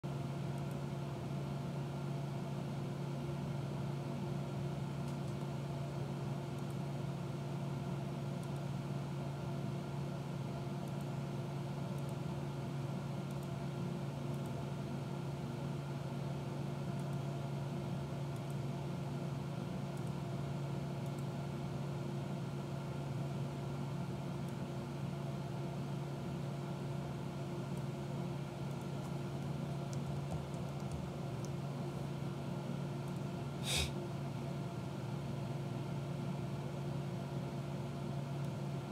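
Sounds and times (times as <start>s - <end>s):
steady low hum: 0.1s - 38.9s.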